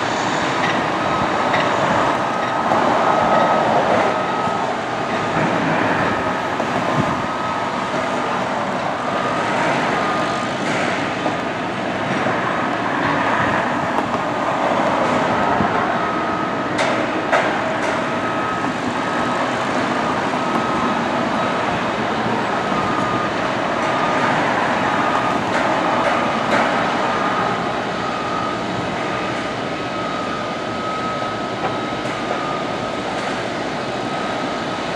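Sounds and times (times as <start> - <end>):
train rumbling along track: 0.0 - 34.9.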